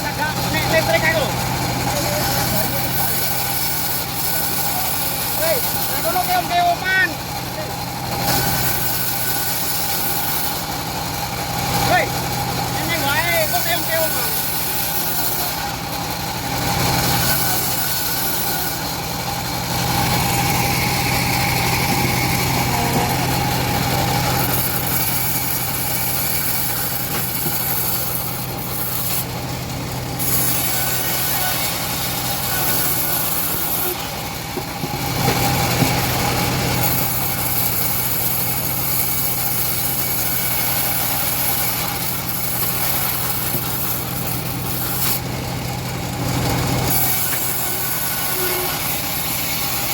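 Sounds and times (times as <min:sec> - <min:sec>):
bandsaw sawmill engine running: 0:00.0 - 0:49.9
blade sawing through wood: 0:00.0 - 0:49.9.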